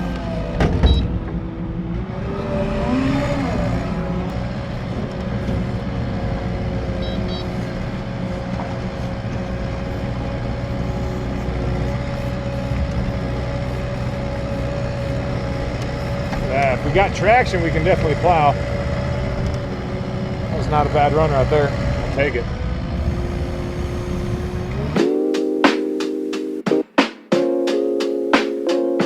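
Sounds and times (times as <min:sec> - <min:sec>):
engine running under load: 0:00.0 - 0:25.0
steady whine: 0:00.0 - 0:26.1.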